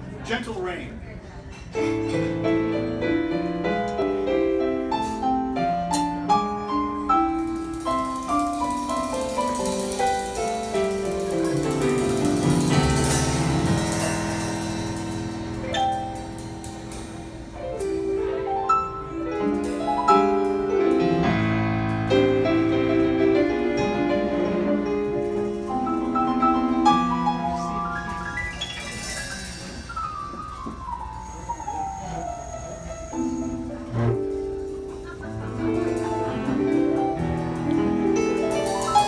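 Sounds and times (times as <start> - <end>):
piano chords and melody: 1.8 - 39.0.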